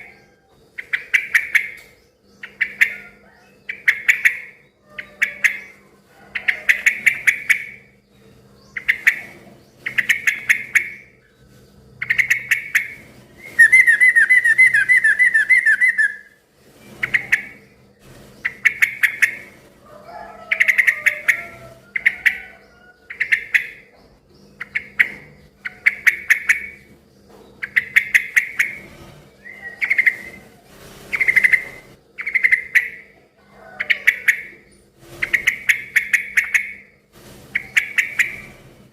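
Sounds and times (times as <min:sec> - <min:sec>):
bird chattering calls: 0:00.0 - 0:08.0, 0:08.6 - 0:11.3, 0:12.0 - 0:16.4, 0:17.0 - 0:17.8, 0:18.4 - 0:36.9, 0:37.5 - 0:38.6.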